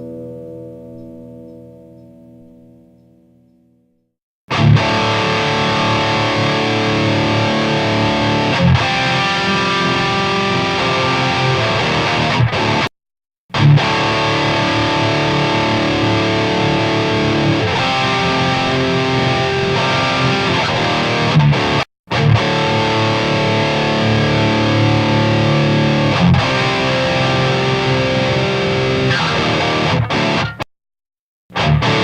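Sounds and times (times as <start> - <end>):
distorted electric guitar chords: 0.0 - 3.7, 4.5 - 12.9, 13.5 - 30.7, 31.5 - 32.0.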